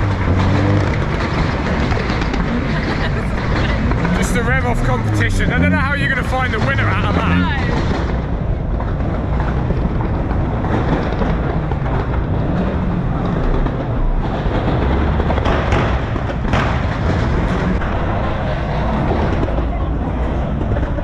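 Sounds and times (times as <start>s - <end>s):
cars revving loud exhausts: 0.0s - 21.0s
sharp exhaust bangs: 0.0s - 21.0s.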